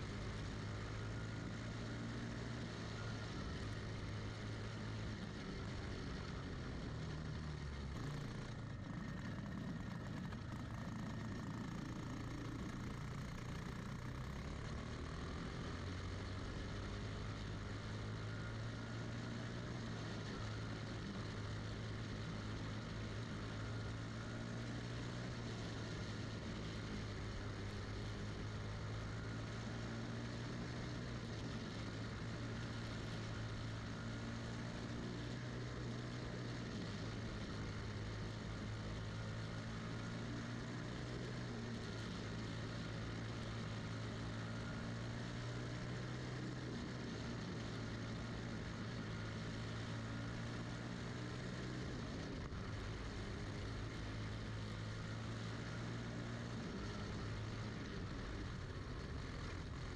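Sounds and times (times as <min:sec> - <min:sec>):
kart engine running steadily: 0:00.0 - 0:59.9.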